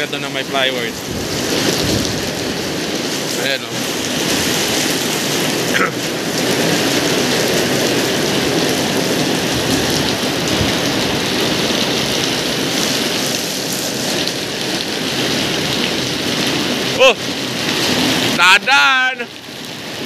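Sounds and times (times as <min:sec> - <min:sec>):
heavy rain on pavement: 0:00.0 - 0:20.0
strong wind blowing: 0:00.7 - 0:18.5.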